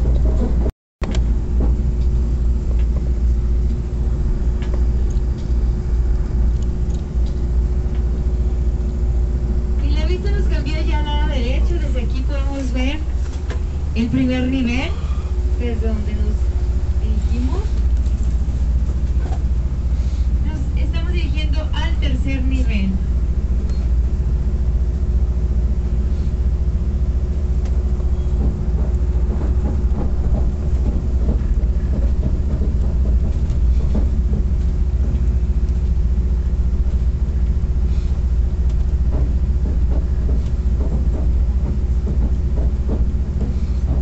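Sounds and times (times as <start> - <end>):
train carriage rumble: 0.0 - 44.0
faint constant hum: 1.1 - 44.0.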